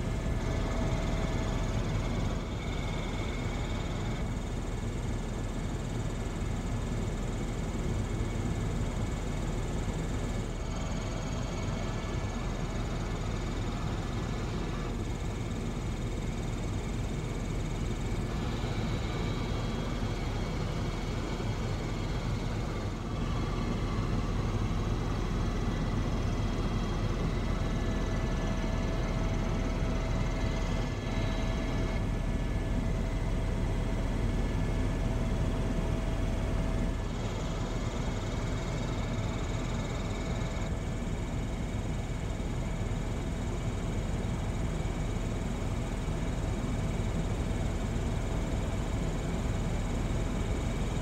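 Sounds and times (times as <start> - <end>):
faint steady whine: 0.0 - 51.0.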